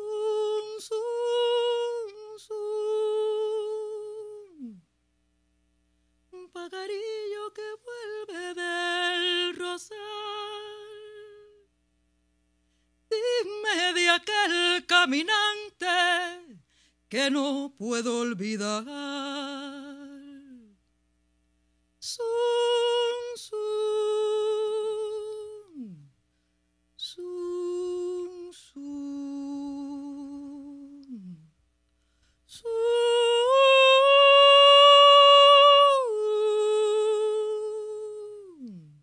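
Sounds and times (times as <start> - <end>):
woman singing wordless melody: 0.0 - 4.9, 6.3 - 11.7, 13.1 - 20.7, 22.0 - 26.1, 27.0 - 31.6, 32.5 - 39.0.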